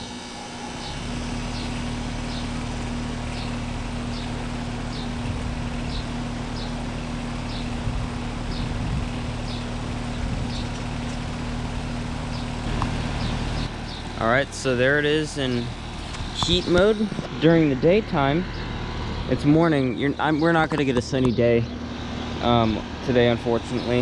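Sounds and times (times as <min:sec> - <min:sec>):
condenser fan whoosh: 0:00.0 - 0:21.0
compressor hum: 0:00.0 - 0:24.0.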